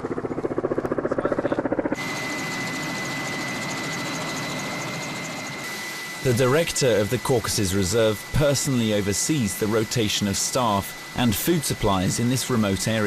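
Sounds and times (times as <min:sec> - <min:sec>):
helicopter rotor beating: 0:00.0 - 0:13.0
turbine engine rush and whine: 0:00.0 - 0:13.0.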